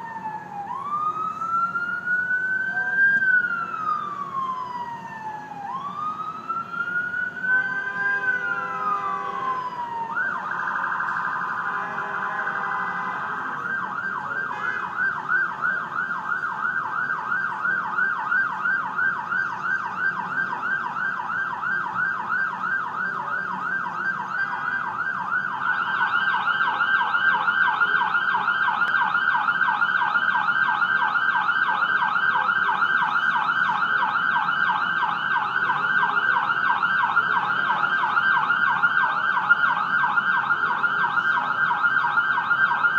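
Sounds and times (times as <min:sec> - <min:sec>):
ambulance siren wailing: 0:00.0 - 0:42.9.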